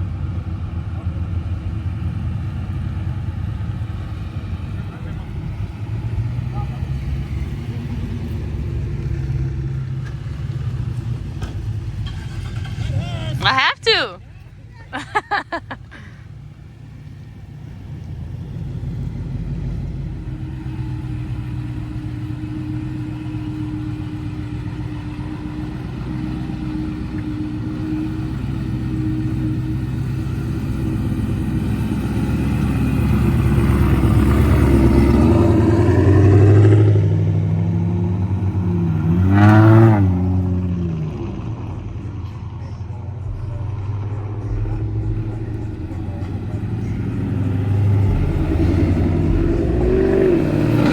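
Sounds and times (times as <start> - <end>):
car engine running and revving: 0.0 - 50.9.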